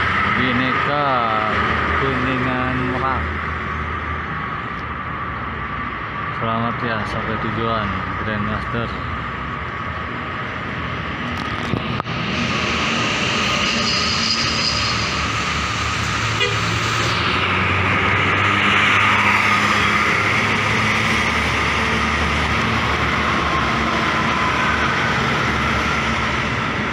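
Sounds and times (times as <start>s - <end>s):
heavy vehicle engine running: 0.0s - 26.9s
tyre and road noise: 0.0s - 26.9s.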